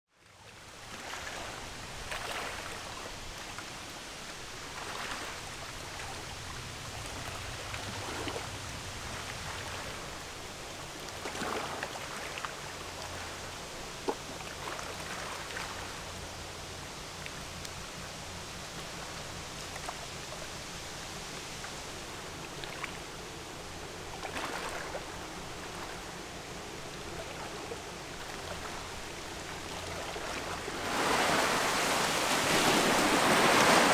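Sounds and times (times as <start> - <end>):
low steady hum: 0.2 - 33.9
river water lapping: 0.2 - 33.9.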